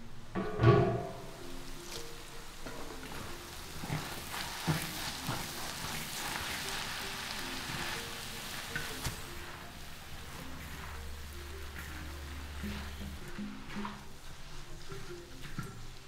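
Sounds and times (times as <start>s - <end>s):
soft background music: 0.0s - 16.0s
noodles sizzling in wok: 1.2s - 16.0s.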